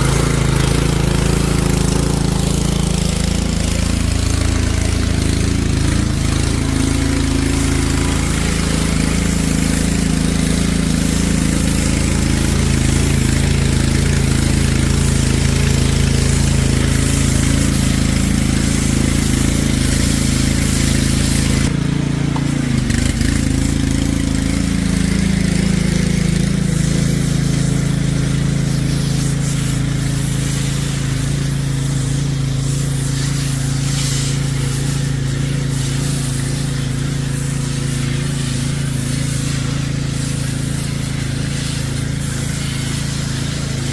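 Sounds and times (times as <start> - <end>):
high-pressure water spray hiss: 0.0 - 43.9
pressure washer engine hum: 0.0 - 43.9.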